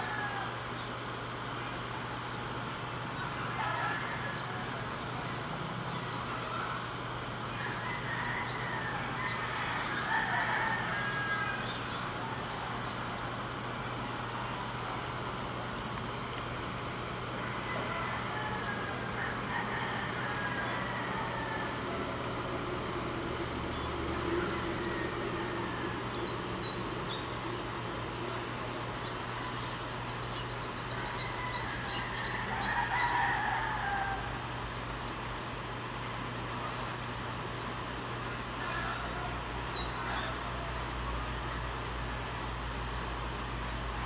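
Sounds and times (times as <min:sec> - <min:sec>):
river water flowing: 0:00.0 - 0:44.0.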